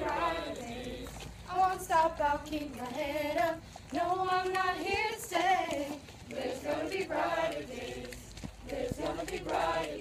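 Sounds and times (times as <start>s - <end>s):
young people singing together: 0.0s - 10.0s.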